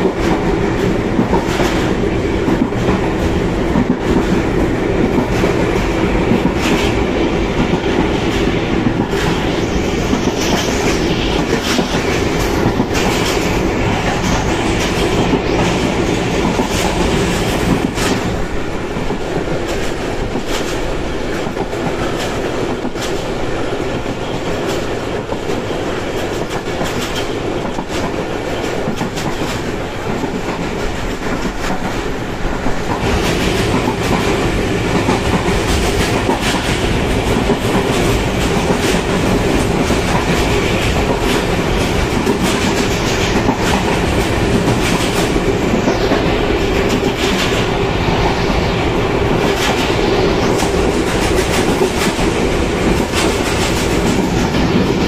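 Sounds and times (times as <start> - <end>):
clickety-clack of rail joints: 0.0 - 55.0
train wheels rumbling on track: 0.0 - 55.0.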